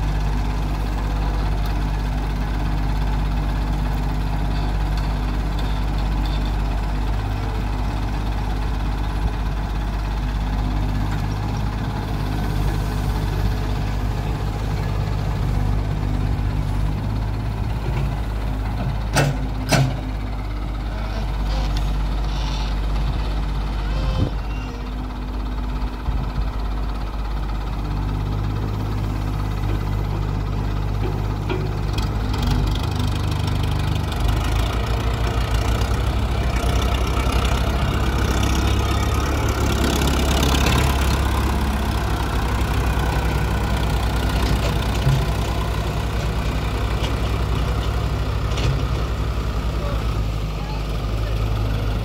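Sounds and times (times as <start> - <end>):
tractor engine idling: 0.0 - 52.0
excavator digging: 0.1 - 25.2, 27.6 - 50.2.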